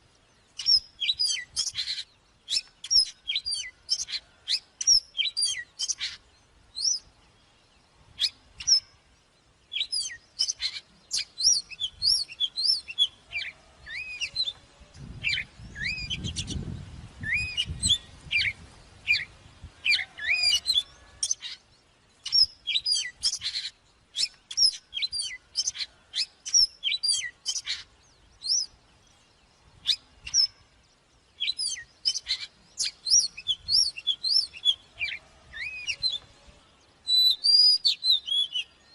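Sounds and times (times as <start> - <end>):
bird song chirps and whistles: 0.4 - 9.0, 9.6 - 36.4, 37.0 - 38.9.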